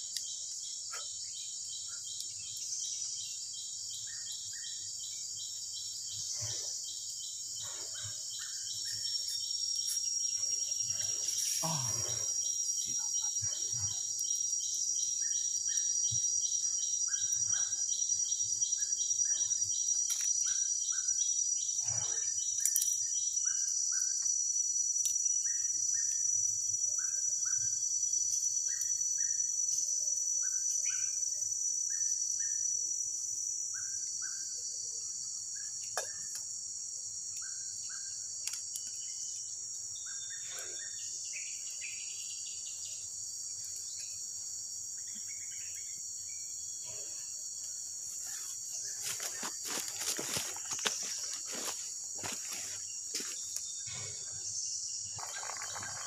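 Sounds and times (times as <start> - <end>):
fast pulsing insect call: 0.0 - 56.0.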